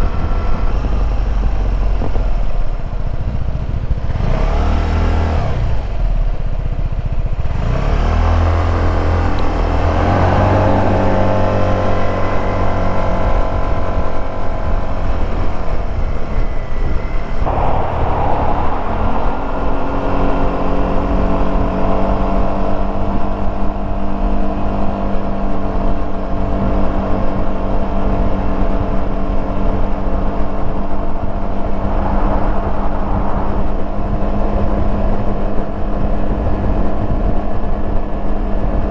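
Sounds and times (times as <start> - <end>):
scooter engine accelerating: 0.0 - 38.9.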